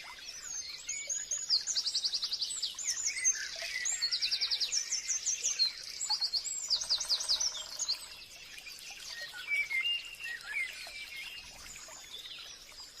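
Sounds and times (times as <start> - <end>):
birdsong: 0.0 - 13.0.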